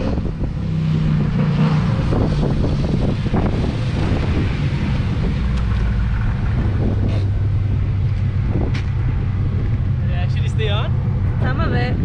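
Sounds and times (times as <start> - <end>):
car engine running: 0.0 - 12.0
road and wind noise: 0.0 - 12.0.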